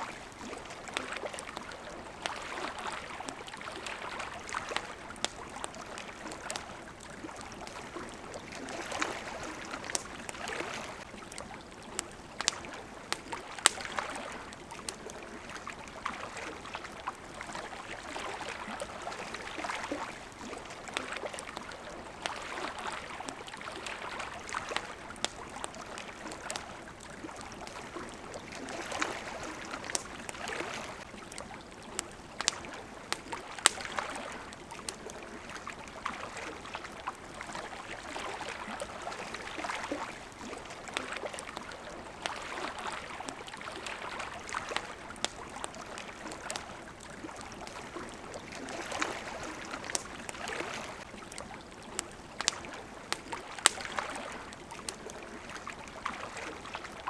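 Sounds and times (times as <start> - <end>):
campfire crackling and popping: 0.0 - 57.0
water lapping at shore: 0.0 - 57.0.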